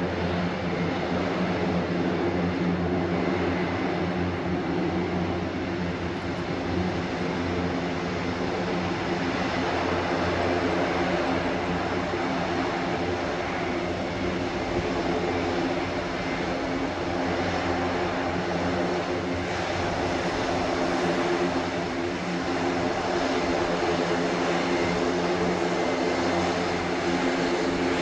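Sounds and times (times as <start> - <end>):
turboprop engines droning: 0.0 - 28.0.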